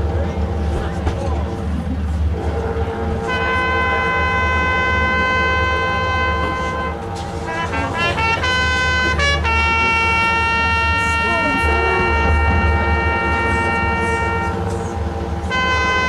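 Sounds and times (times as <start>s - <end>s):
marching band wind instruments: 2.6s - 16.0s.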